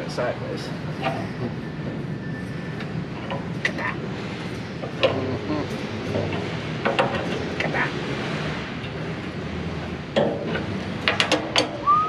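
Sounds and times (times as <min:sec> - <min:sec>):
mechanical running hum: 0:00.0 - 0:12.0.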